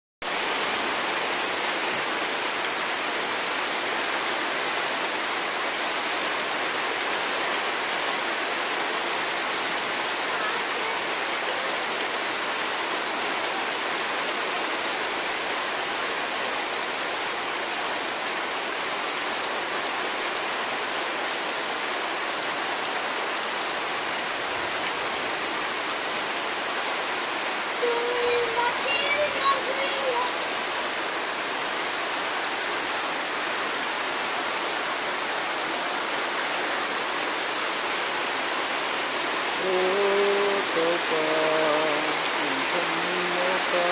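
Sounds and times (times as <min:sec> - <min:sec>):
steady rain hiss: 0:00.2 - 0:43.9.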